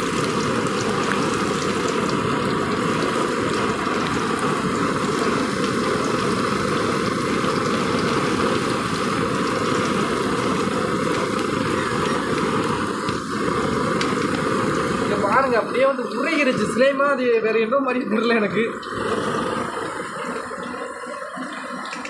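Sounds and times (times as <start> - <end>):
slime sizzling in hot oil: 0.0 - 22.0.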